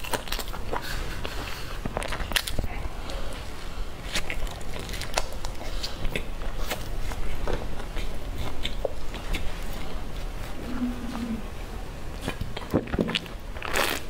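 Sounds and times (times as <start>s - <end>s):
biting and chewing food: 0.0s - 11.4s, 12.1s - 14.0s.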